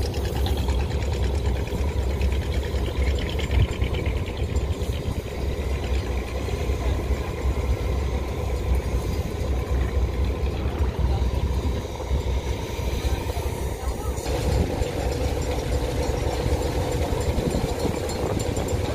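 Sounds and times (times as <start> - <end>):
boat diesel engine drone: 0.0 - 18.9.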